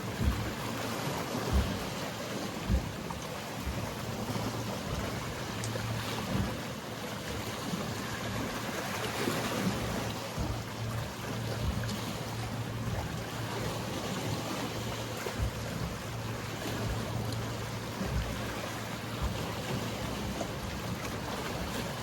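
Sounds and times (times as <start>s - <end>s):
wind thumps on microphone: 0.0s - 6.7s, 9.6s - 22.0s
boat engine hum: 0.0s - 22.0s
sea waves washing on shore: 0.0s - 22.0s.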